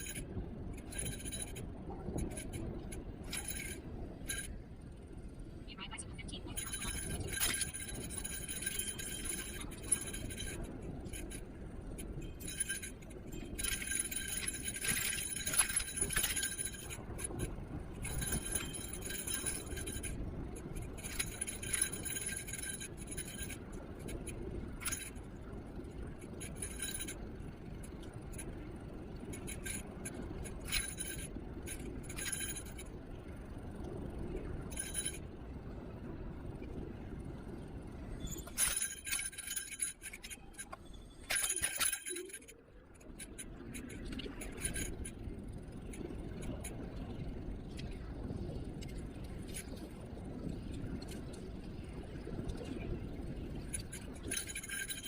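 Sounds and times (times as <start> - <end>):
light rattling and clinking: 0.0 - 5.6, 6.4 - 55.0
road and tyre rumble: 0.0 - 55.0.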